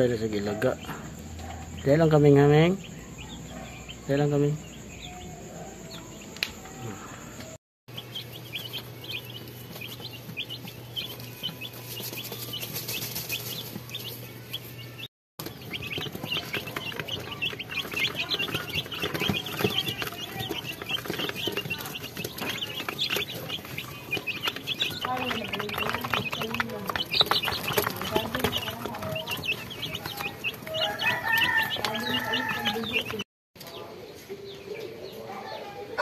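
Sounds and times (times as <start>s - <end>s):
chicks peeping: 0.0s - 36.0s.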